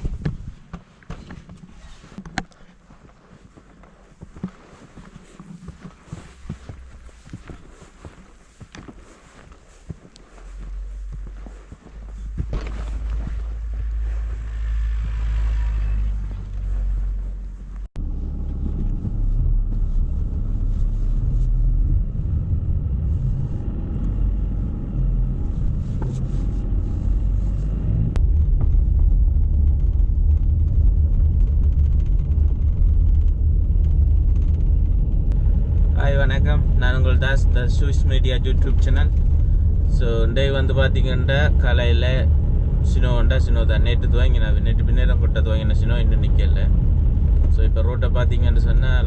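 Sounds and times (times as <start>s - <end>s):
car driving on snow: 0.0s - 49.0s.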